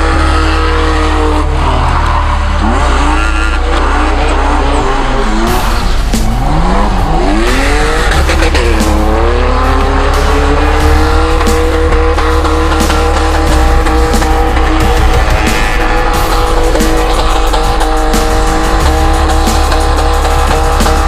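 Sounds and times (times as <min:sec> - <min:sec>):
car engine revving: 0:00.0 - 0:21.0
electronic music with heavy bass: 0:00.0 - 0:21.0.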